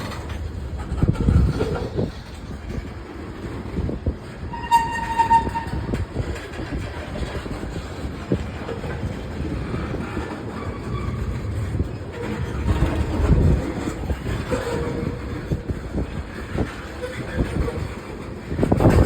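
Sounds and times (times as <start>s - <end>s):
freight train rolling past: 0.0s - 19.0s
wheels clattering over rails: 0.0s - 19.0s.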